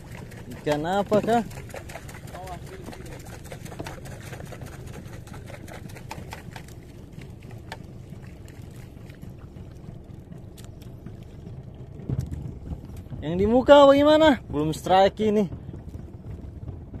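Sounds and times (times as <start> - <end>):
steady low rumble: 0.0 - 17.0
water sloshing against boat: 0.0 - 17.0.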